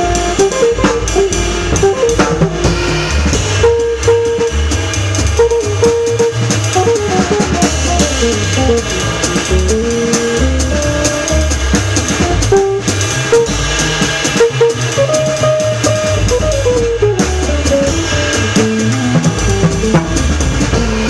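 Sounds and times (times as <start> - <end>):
drum kit ride cymbal: 0.0 - 21.0
walking upright bass: 0.0 - 21.0.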